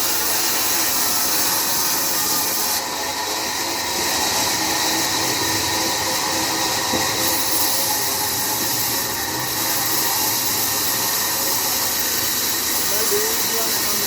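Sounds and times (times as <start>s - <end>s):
saw cutting through log: 0.0s - 14.0s.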